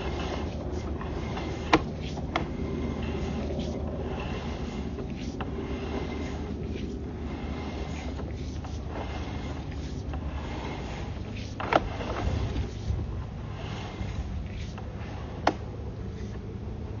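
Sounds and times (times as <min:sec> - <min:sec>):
cable being pulled through pipe: 0:00.0 - 0:17.0
low steady hum: 0:00.0 - 0:17.0.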